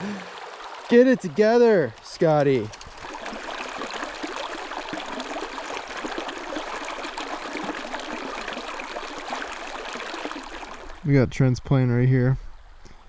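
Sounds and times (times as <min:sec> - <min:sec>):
creek babbling over rocks: 0:00.0 - 0:11.5.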